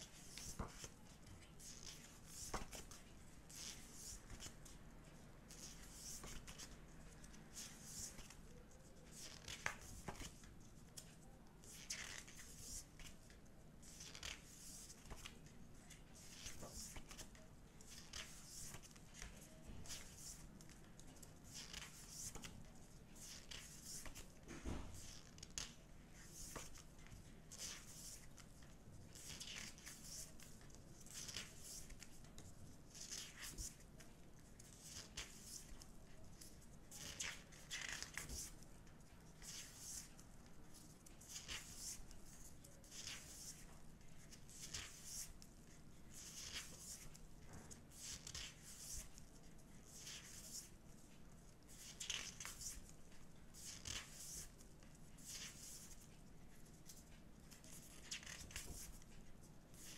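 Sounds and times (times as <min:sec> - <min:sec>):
paper rustling and page flips: 0:00.0 - 0:59.9.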